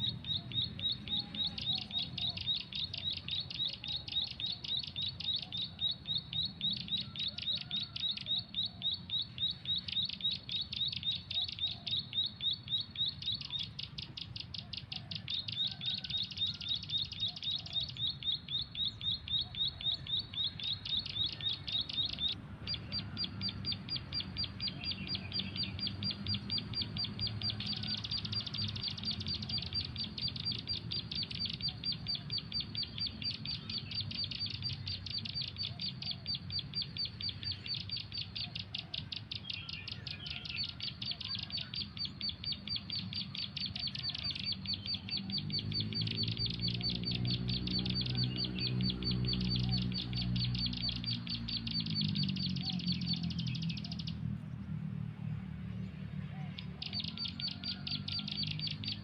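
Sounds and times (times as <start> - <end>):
bird call high chirps: 0.0 - 54.5, 56.3 - 59.0.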